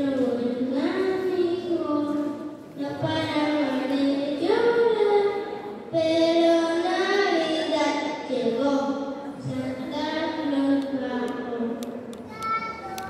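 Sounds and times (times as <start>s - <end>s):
boy singing into microphone: 0.0s - 13.0s.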